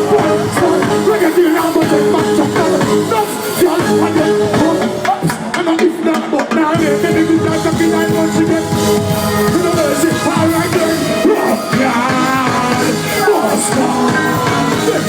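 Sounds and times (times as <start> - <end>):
person singing: 0.0 - 15.0
reggae band playing: 0.0 - 15.0.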